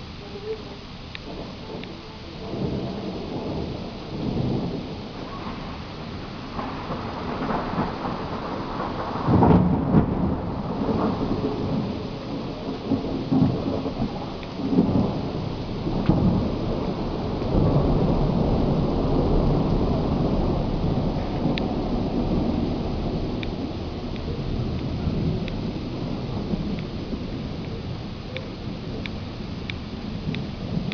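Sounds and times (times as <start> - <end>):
steady rain: 0.0 - 30.9
thunder rumbling: 0.0 - 30.9.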